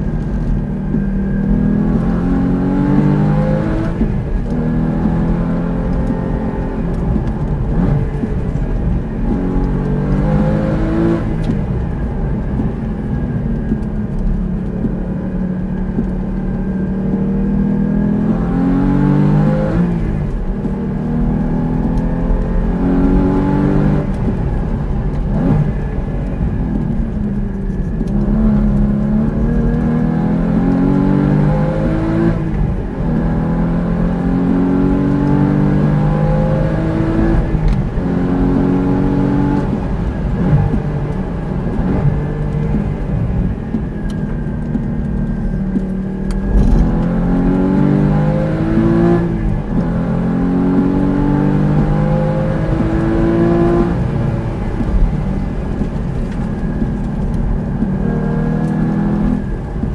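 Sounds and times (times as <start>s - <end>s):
sports car engine revving: 0.0s - 59.9s.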